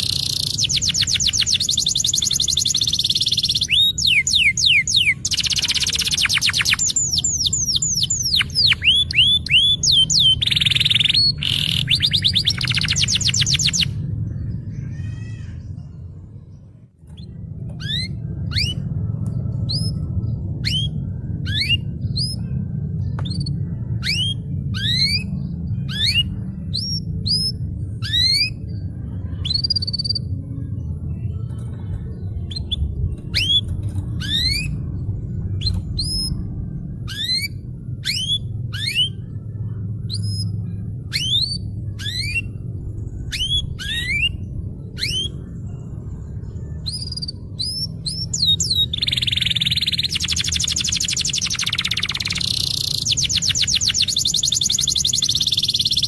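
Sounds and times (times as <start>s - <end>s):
canary singing: 0.0s - 56.0s
steady low hum: 0.0s - 56.0s.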